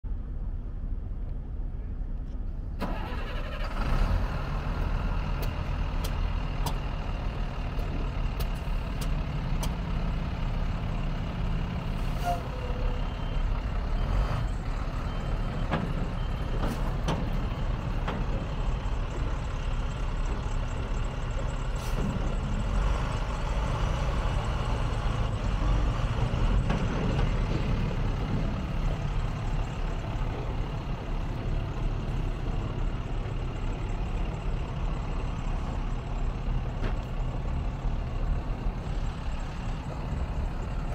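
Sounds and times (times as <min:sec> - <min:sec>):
diesel truck engine idling: 0:02.6 - 0:40.9.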